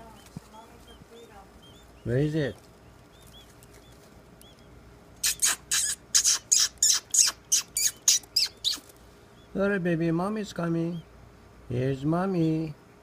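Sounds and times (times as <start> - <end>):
nestling birds begging calls: 0.0 - 12.8.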